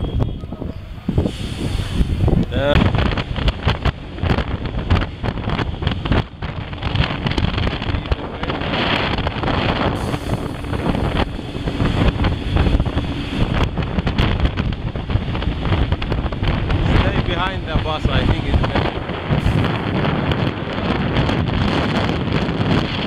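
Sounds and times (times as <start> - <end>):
motorcycle engine and road rumble: 0.0 - 23.0
wind buffeting microphone: 0.0 - 23.0.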